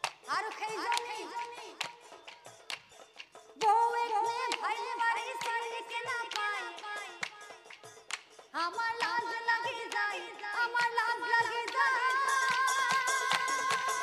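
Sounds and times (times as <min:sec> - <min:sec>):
woman singing: 0:00.2 - 0:02.2, 0:03.6 - 0:07.7, 0:08.5 - 0:14.0.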